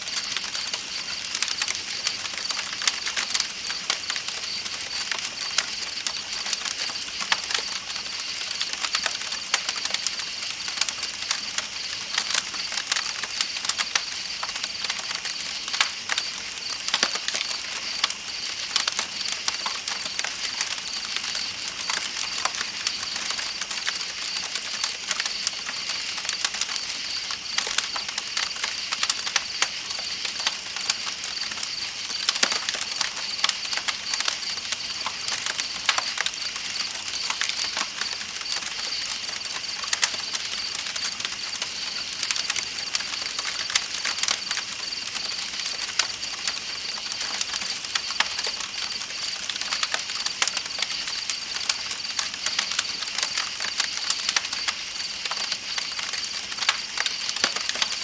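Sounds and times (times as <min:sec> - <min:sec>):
campfire crackling and popping: 0:00.0 - 0:58.0
night insects chirping: 0:00.1 - 0:58.0.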